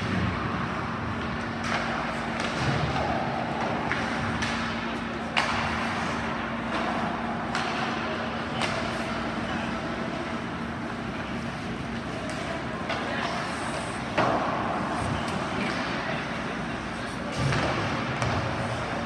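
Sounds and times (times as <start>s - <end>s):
arena noise with faint hum: 0.0s - 19.0s
hockey sticks and puck clacking: 0.0s - 19.0s.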